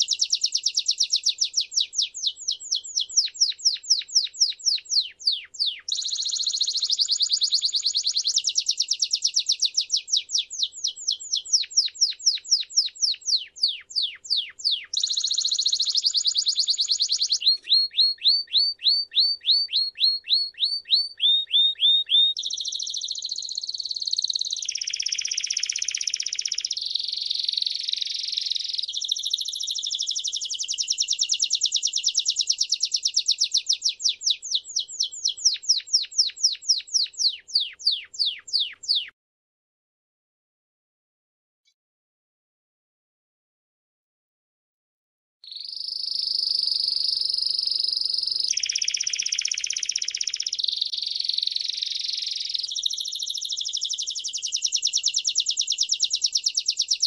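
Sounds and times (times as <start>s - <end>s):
canary singing trills: 0.0s - 39.2s, 45.4s - 57.0s.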